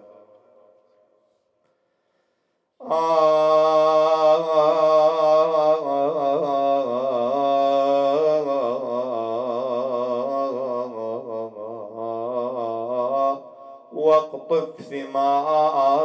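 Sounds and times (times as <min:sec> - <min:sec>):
man chanting a lament: 0:00.0 - 0:00.7, 0:02.8 - 0:16.0.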